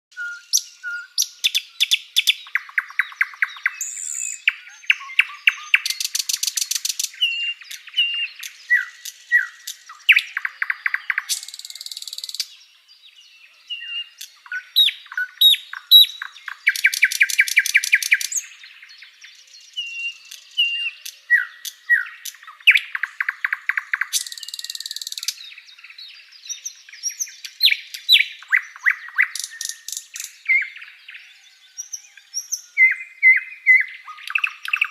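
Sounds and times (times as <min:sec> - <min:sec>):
bird song with chirps and trills: 0:00.1 - 0:34.9.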